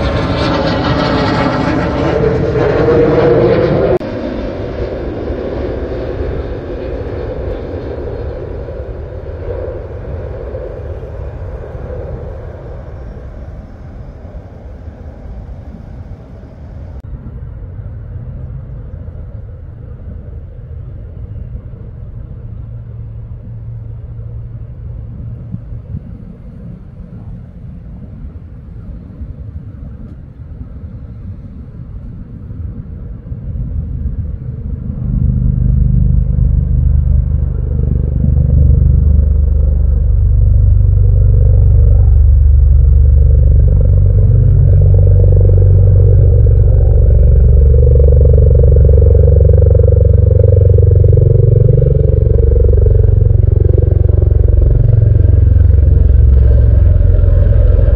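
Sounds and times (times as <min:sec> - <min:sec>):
deep low rotor rumble: 0:00.0 - 0:57.9.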